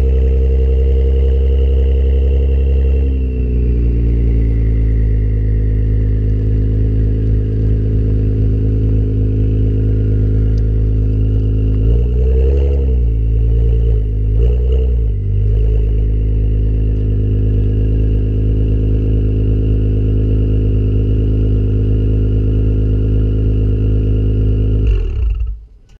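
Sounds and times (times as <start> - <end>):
car engine revving and idling: 0.0 - 25.9.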